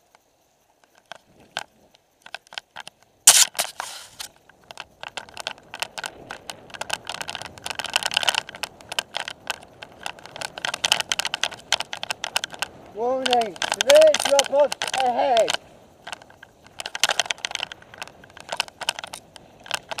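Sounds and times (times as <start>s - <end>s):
mountain bike rattling on dirt trail: 0.0s - 20.0s.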